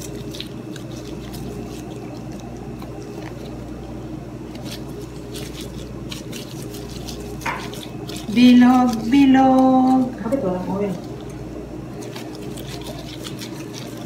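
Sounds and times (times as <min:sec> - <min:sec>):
dough squishing: 0:00.0 - 0:14.0
plastic gloves crinkling: 0:00.0 - 0:14.0
steady low hum: 0:00.0 - 0:14.0.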